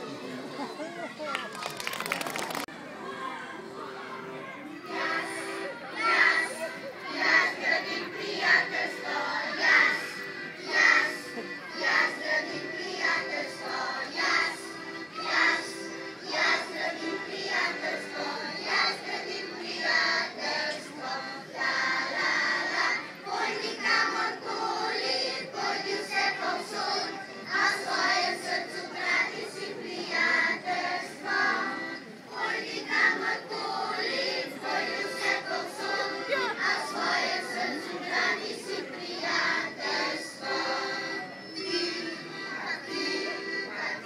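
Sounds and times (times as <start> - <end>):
children's choir singing: 3.0 - 44.0.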